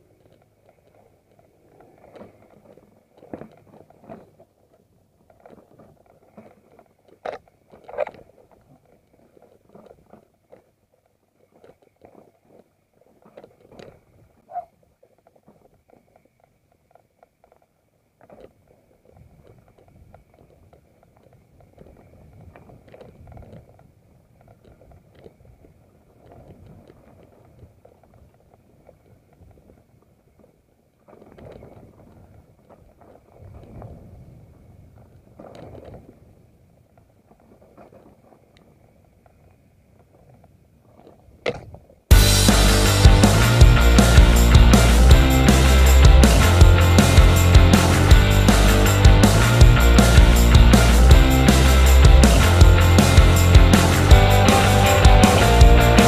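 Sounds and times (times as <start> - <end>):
low rumble of bike riding: 0.0 - 56.0.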